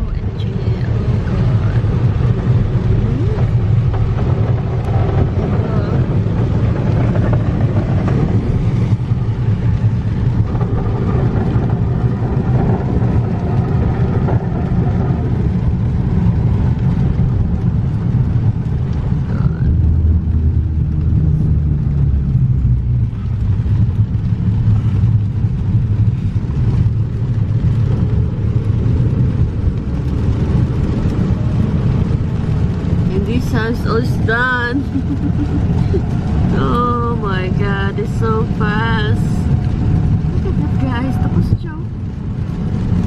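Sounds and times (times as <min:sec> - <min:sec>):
car engine rumble: 0:00.0 - 0:43.0
road noise: 0:00.0 - 0:43.0.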